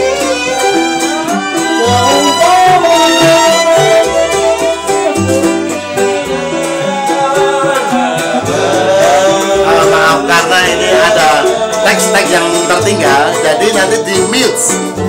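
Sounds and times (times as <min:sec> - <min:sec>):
low bass line: 0:00.0 - 0:15.0
plucked small string instruments: 0:00.0 - 0:15.0
violin: 0:00.0 - 0:15.0
man singing: 0:00.1 - 0:15.0.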